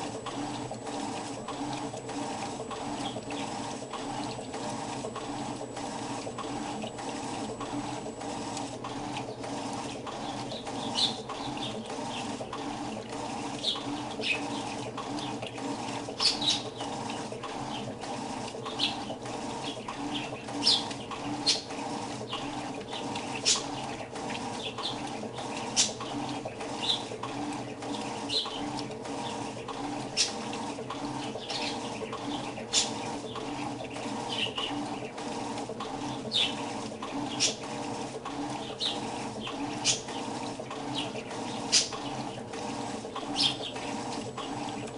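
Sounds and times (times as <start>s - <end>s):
washing machine running: 0.0s - 44.9s.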